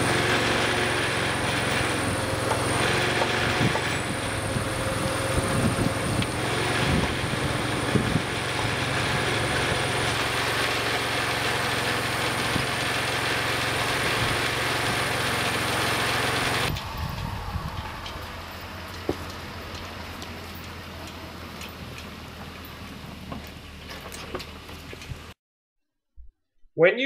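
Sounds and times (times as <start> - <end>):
truck engine idling: 0.0 - 25.4.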